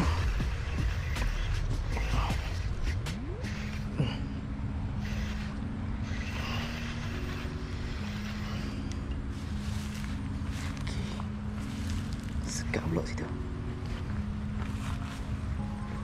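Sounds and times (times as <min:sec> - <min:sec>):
slow held music chords: 0:00.0 - 0:16.0.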